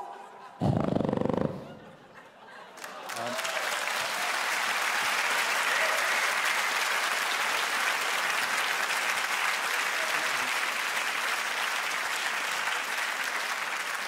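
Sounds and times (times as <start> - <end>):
audience applauding: 2.7 - 14.0.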